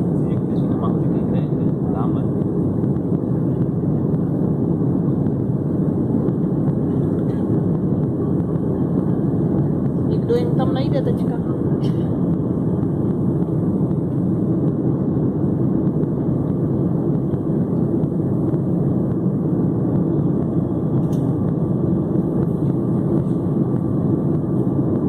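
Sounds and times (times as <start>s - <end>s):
jet engine drone in cabin: 0.0s - 25.0s.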